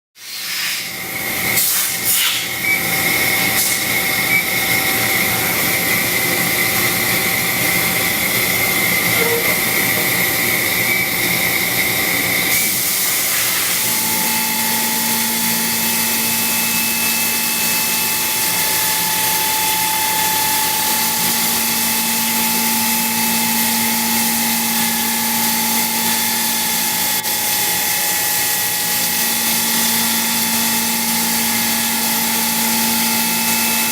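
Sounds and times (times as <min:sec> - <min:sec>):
milling machine hiss: 0:00.2 - 0:33.9
spindle whine: 0:02.6 - 0:12.5, 0:13.8 - 0:33.9.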